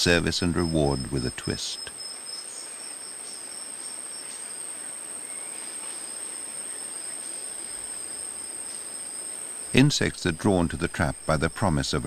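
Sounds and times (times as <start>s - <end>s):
insects trilling: 0.0s - 12.0s
soft hiss: 0.0s - 12.0s.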